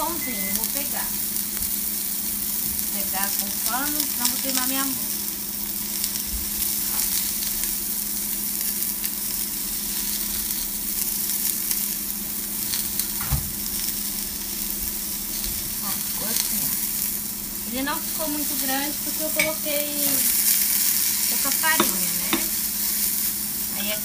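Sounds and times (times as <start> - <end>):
low steady hum: 0.0 - 24.0
patty sizzling in a pan: 0.0 - 24.0.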